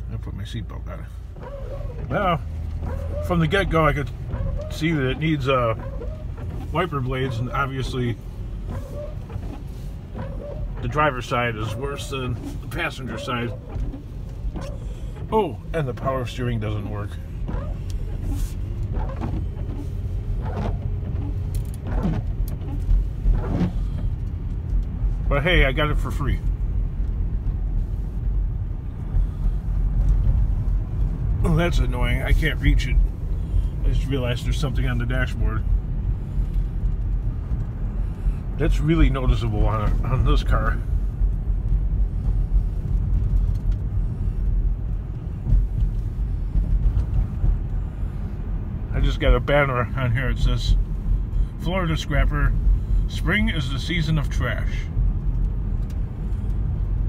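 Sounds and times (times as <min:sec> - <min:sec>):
low rumble of van driving: 0:00.0 - 0:57.0
windshield wipers sweeping: 0:01.1 - 0:57.0.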